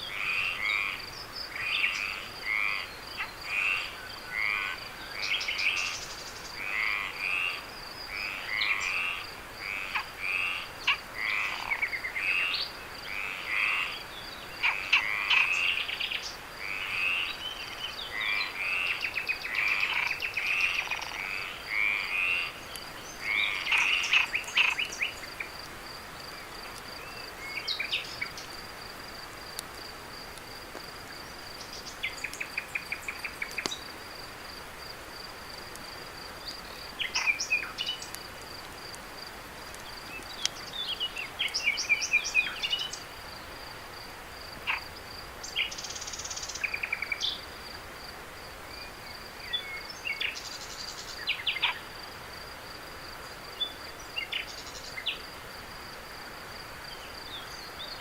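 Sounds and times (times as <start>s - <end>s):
insect chirping calls: 0.0s - 58.0s.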